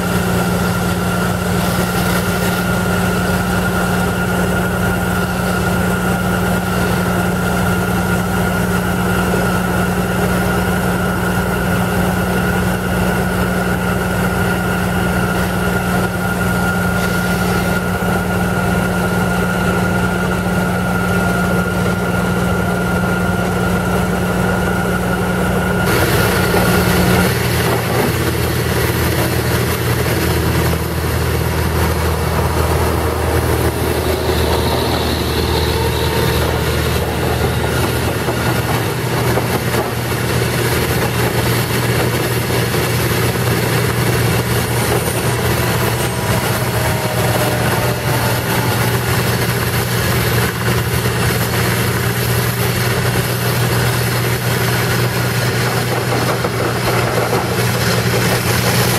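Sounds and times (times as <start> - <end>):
high machine whine: 0.0 - 58.9
pneumatic drilling rig running: 0.0 - 58.9.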